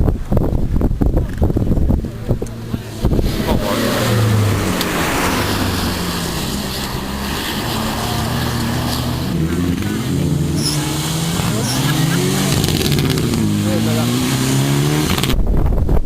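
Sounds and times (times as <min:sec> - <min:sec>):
road and tyre noise: 0:00.0 - 0:16.0
rally car engine under load: 0:00.3 - 0:15.4.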